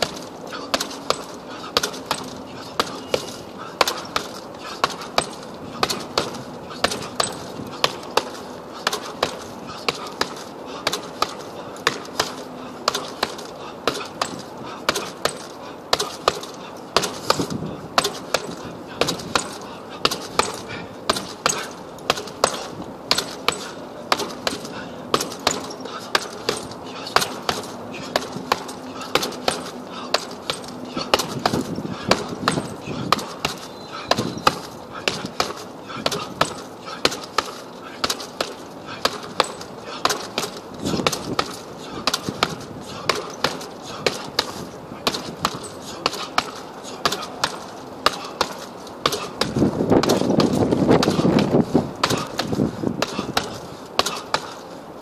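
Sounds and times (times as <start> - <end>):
punches on heavy punching bag: 0.0 - 54.7.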